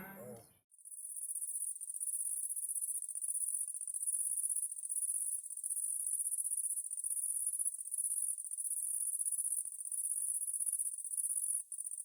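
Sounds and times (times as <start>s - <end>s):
crickets chirping: 0.8s - 12.0s.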